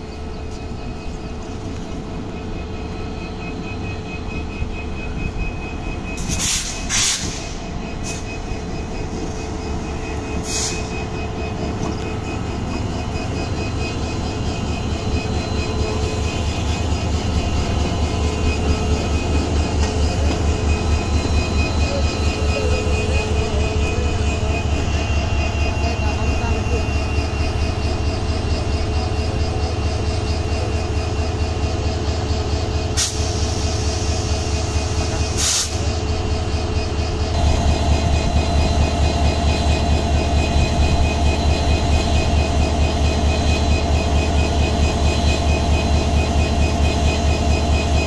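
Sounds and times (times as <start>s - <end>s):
locomotive engine rumble: 0.0s - 48.0s.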